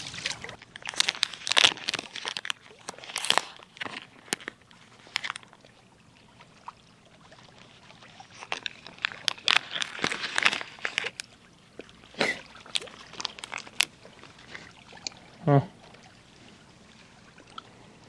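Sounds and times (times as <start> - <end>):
water splashing: 0.0 - 18.0.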